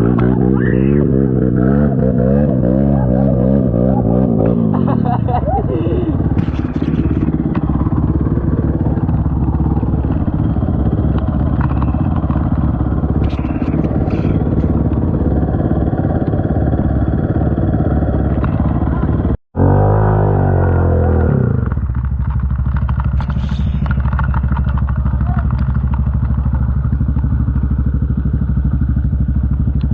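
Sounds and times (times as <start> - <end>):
quad engine running and revving: 0.0 - 29.9.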